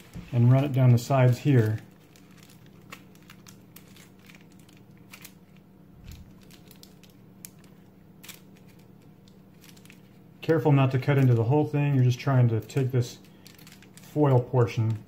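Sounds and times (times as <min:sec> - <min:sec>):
foil crinkling: 0:00.0 - 0:15.0.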